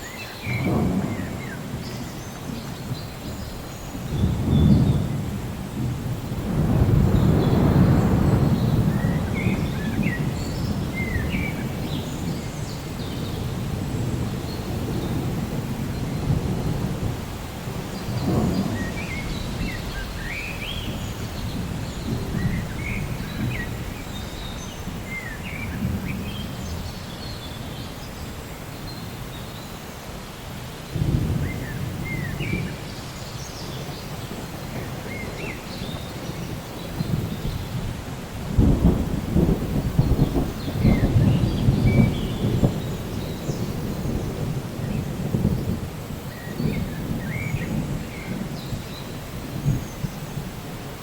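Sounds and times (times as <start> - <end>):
thunder rumbling: 0.0 - 29.0, 30.9 - 51.0
steady rain: 0.0 - 51.0.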